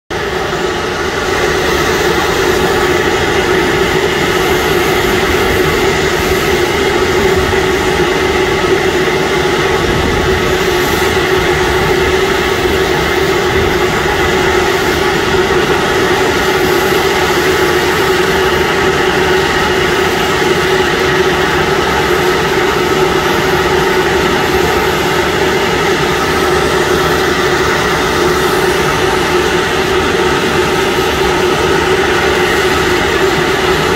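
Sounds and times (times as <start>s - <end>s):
turbine whine: 0.1s - 33.9s.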